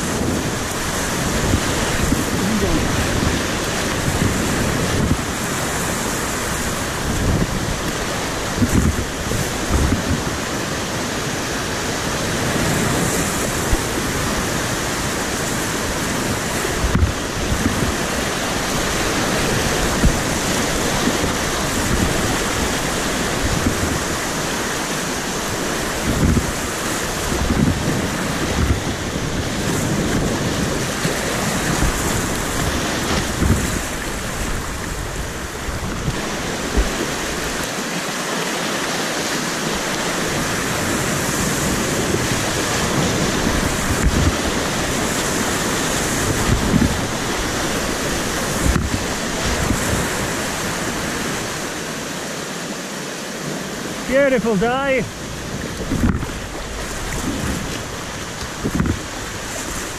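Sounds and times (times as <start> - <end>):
wind buffeting microphone: 0.0 - 37.8, 39.6 - 52.0, 54.1 - 59.9
river rapids roaring over rocks: 0.0 - 59.9.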